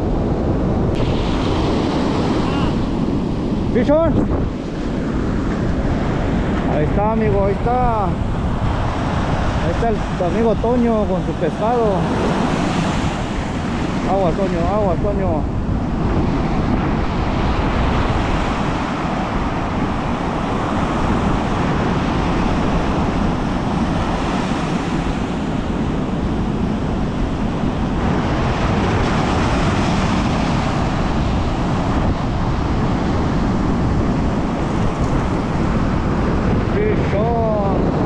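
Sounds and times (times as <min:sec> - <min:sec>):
ocean surf on a beach: 0:00.0 - 0:38.0
wind buffeting microphone: 0:00.0 - 0:38.0.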